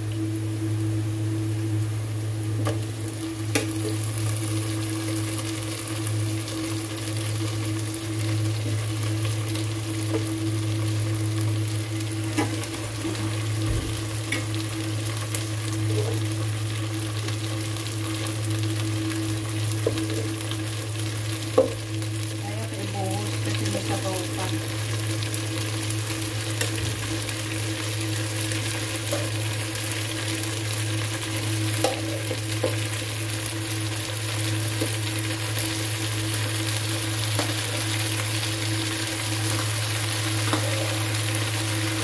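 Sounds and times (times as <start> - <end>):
meat sizzling in a pan: 0.0 - 42.0
steady low hum: 0.0 - 42.0.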